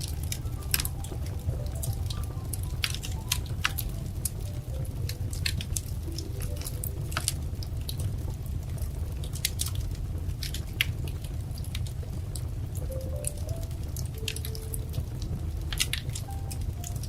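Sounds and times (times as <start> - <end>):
low rumble of burning logs: 0.0 - 17.0
wood fire crackling: 0.0 - 17.0.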